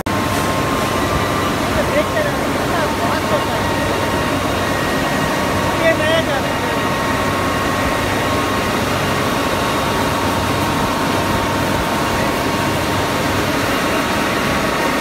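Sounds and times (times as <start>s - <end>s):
industrial machinery rushing noise: 0.0s - 15.0s
machinery whine: 0.0s - 15.0s.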